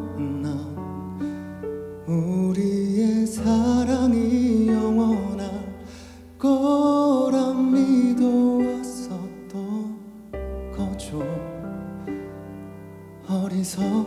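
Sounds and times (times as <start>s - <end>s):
man singing a ballad: 0.0s - 12.4s, 13.2s - 14.0s
soft backing accompaniment: 0.0s - 14.0s.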